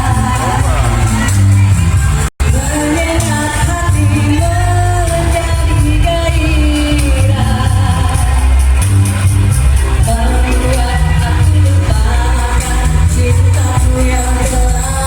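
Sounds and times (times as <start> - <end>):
person singing: 0.0 - 9.2, 9.8 - 15.0
pop song with bass beat: 0.0 - 15.0.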